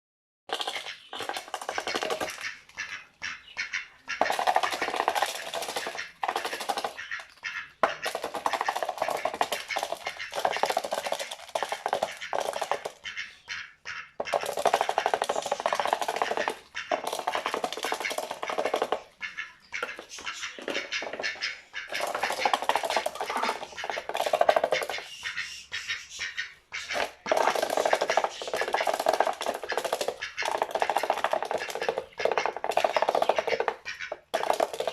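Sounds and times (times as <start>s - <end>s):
duck bill clicking: 3.7s - 13.3s, 14.2s - 25.4s, 26.8s - 34.9s.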